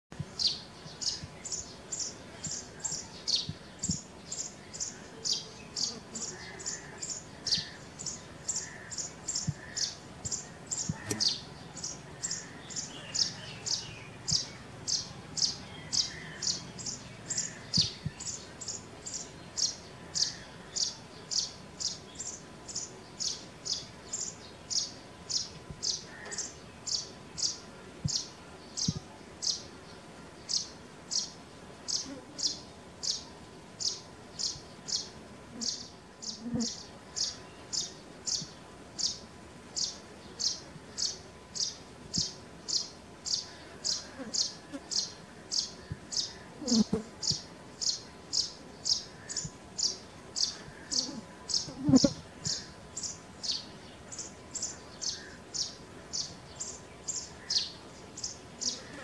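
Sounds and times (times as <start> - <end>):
sparrow chirping: 0.3 - 29.6, 39.8 - 59.0.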